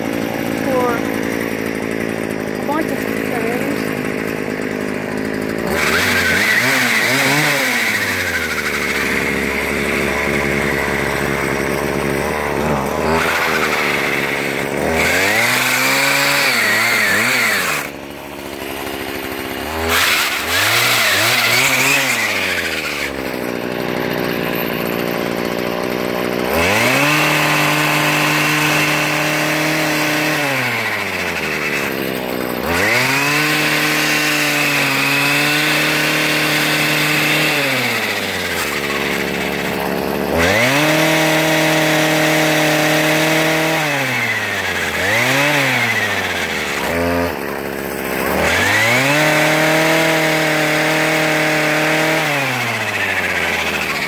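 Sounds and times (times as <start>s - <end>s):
pole saw engine revving: 0.0s - 54.0s.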